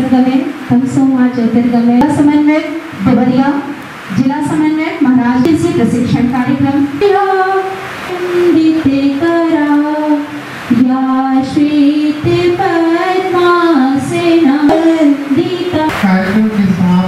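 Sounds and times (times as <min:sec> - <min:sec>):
woman singing devotional song: 0:00.0 - 0:16.0.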